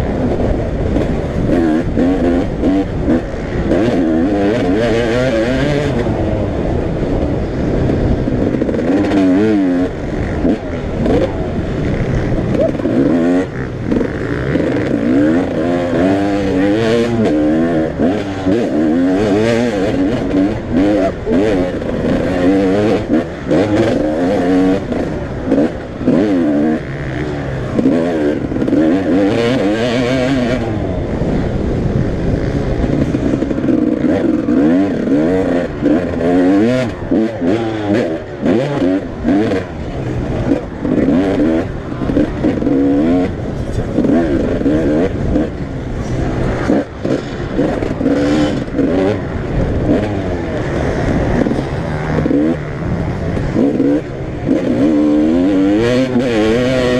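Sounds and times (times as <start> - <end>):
motocross bikes revving: 0.0 - 56.9.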